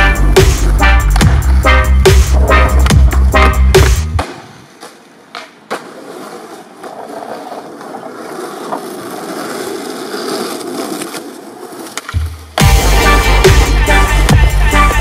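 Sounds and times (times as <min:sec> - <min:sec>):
skateboard clacks: 0:00.0 - 0:12.6
skateboard wheels rolling on pavement: 0:00.0 - 0:15.0.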